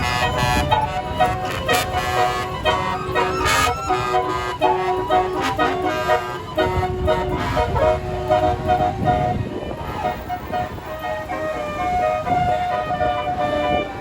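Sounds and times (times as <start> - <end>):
truck air horn playing a tune: 0.0 - 14.0.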